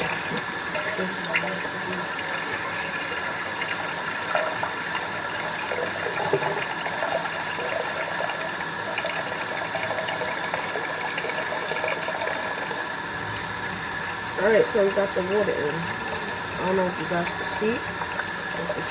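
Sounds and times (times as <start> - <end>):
tap water running into pot: 0.0 - 18.9.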